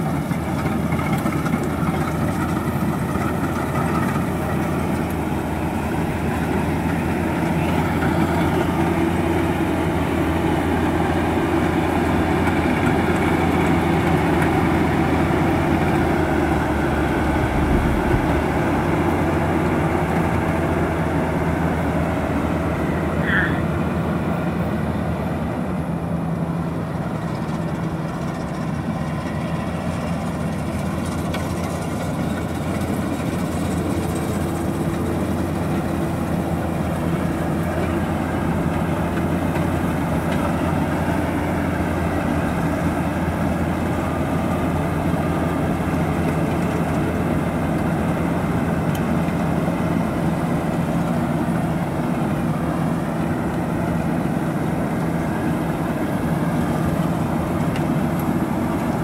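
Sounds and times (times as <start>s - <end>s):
combine harvester engine drone: 0.0s - 59.0s
threshing machinery hum: 0.1s - 23.9s, 26.6s - 59.0s.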